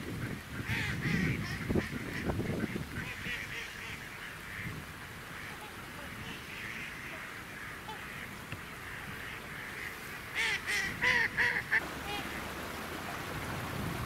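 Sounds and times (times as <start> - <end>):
waterfowl calling: 0.1 - 13.4
loud geese honks: 0.2 - 12.5.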